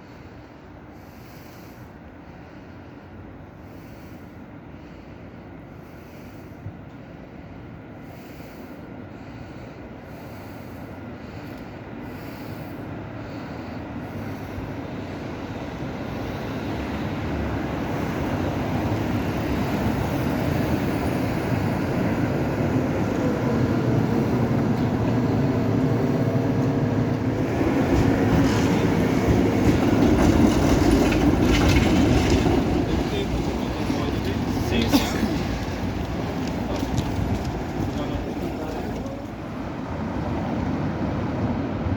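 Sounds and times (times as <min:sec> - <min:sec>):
tram running on rails: 0:00.0 - 0:41.9.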